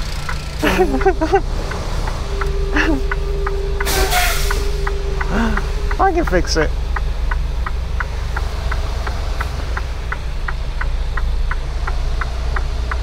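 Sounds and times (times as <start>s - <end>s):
diesel engine droning: 0.0s - 13.0s
turn signal ticking: 0.0s - 13.0s.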